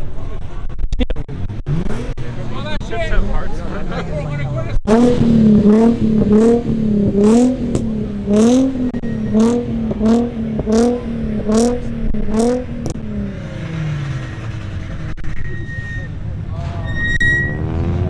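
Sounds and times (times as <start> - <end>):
car engine revving in blips: 0.0 - 18.0.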